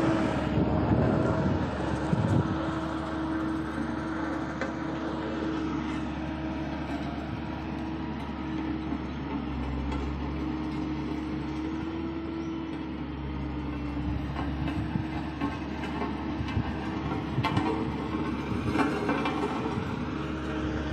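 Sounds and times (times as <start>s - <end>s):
diesel engine droning: 0.0s - 20.9s.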